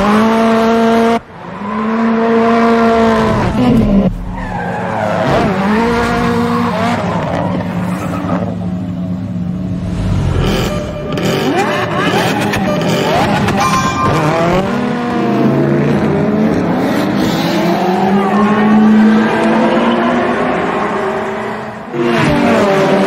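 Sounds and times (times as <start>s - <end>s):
race car engines passing: 0.0s - 23.0s.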